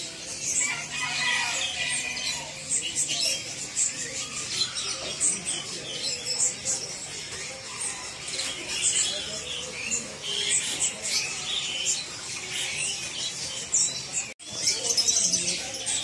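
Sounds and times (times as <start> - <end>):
canaries chirping and singing: 0.0 - 16.0.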